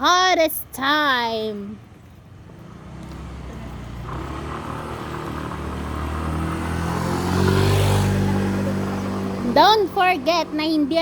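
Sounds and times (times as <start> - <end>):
vehicle engine approaching: 1.8 - 11.0.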